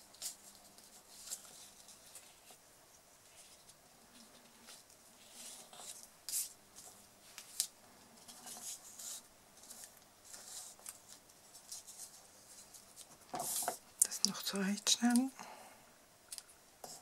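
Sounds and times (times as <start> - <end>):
ribbon rustling against paper: 0.0 - 15.3.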